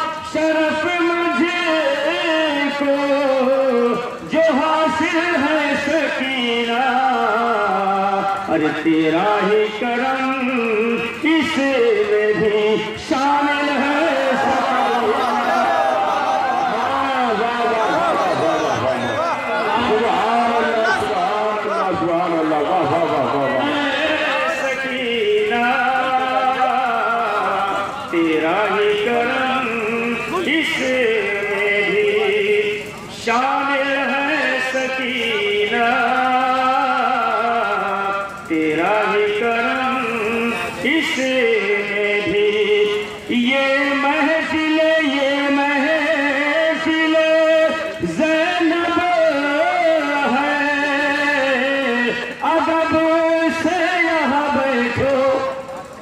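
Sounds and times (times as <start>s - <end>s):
man chanting into a microphone: 0.0s - 16.0s, 16.6s - 56.0s
man singing devotional verse: 0.0s - 56.0s.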